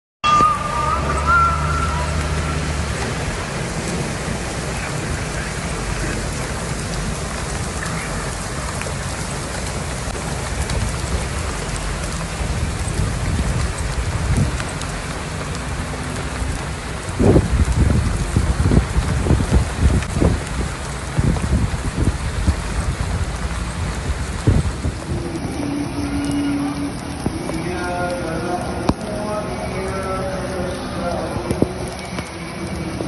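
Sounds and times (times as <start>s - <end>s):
heavy rain on paving: 0.2s - 33.0s
low rumble: 0.2s - 33.0s.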